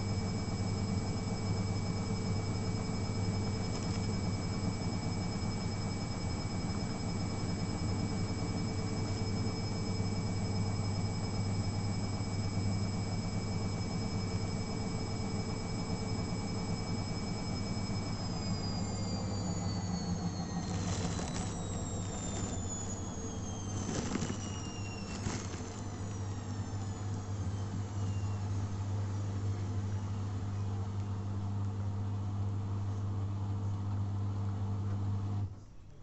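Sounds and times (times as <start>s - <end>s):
washing machine spinning with whine: 0.0s - 36.0s.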